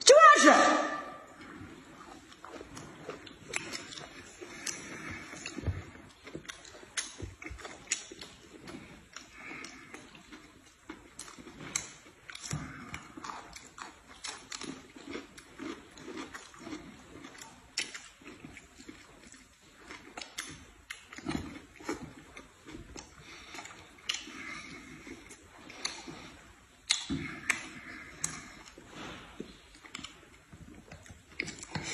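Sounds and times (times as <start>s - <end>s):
chewing and lip-smacking: 1.2s - 31.9s.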